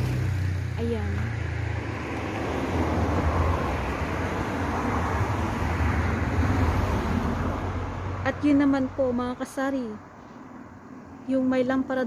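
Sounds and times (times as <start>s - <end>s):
vehicle engine drone: 0.0s - 11.9s
road noise: 0.0s - 12.0s.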